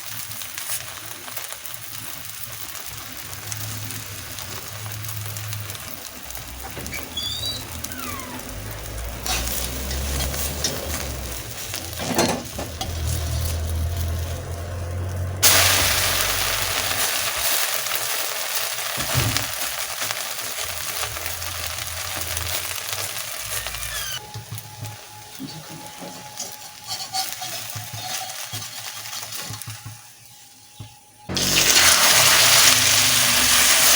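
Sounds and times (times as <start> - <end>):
egg mixture sizzling in oil: 0.0 - 33.9.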